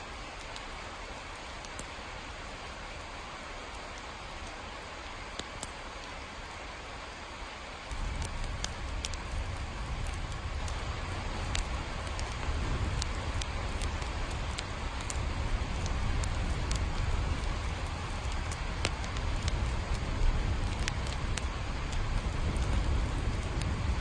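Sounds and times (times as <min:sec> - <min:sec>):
raindrops pattering: 0:00.0 - 0:24.0
steady rain: 0:00.0 - 0:24.0.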